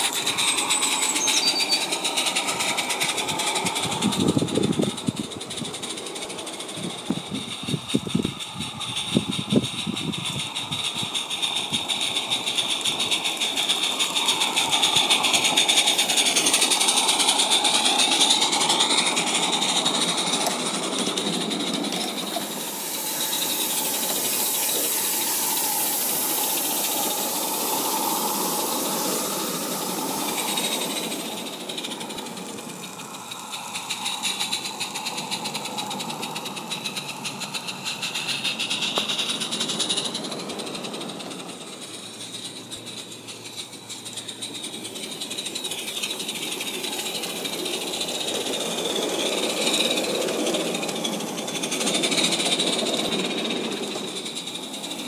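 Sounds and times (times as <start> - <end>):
steam hissing: 0.0 - 55.0
steam locomotive chuffing: 0.0 - 55.0
wheels rattling over track: 0.0 - 55.0.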